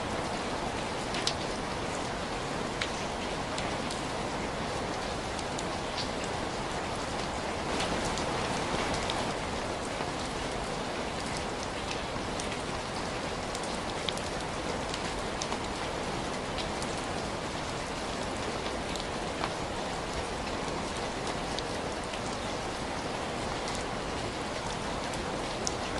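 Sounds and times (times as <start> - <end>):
steady rain hiss: 0.0 - 25.9
raindrops ticking: 0.2 - 4.2, 4.8 - 25.9.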